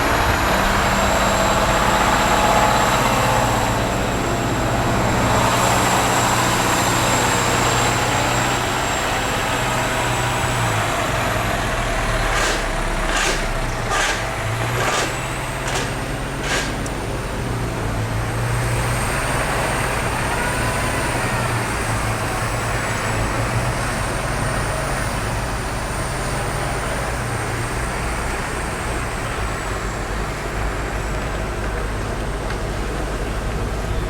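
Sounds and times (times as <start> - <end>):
low engine hum: 0.0 - 34.0
tyres on slushy road: 0.0 - 34.0.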